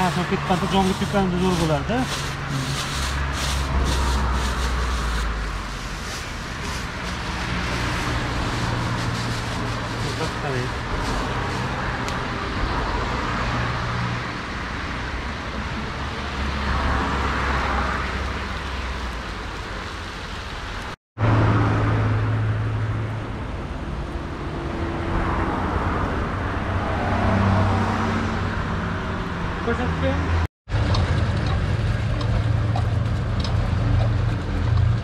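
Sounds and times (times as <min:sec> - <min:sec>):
traffic rumble: 0:00.0 - 0:35.0
vehicles passing: 0:00.0 - 0:35.0.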